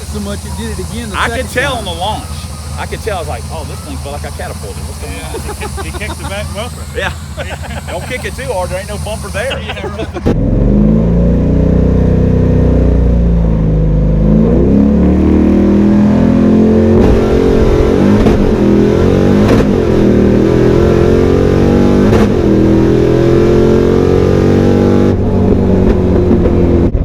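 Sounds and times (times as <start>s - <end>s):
loud car engine revving: 0.0s - 27.0s.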